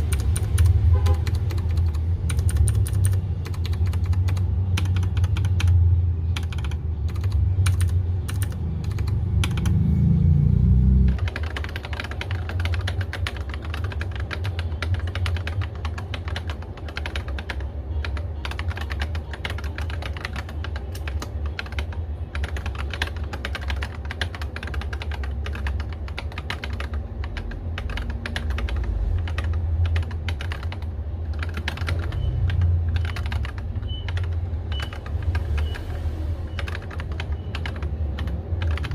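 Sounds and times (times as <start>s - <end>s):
mechanical keyboard typing: 0.0s - 9.8s, 10.9s - 38.9s.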